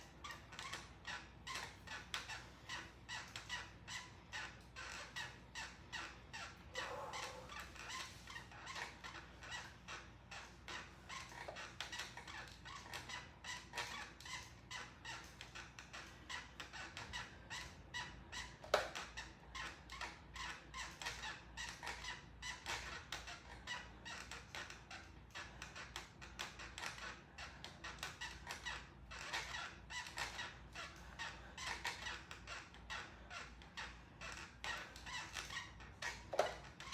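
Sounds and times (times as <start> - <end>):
exercise bike squeaking: 0.0 - 36.9.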